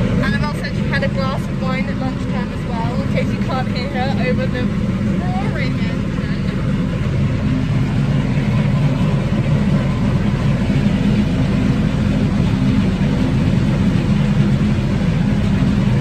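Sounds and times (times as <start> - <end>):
boat engine humming: 0.0 - 16.0
water rushing: 0.0 - 16.0.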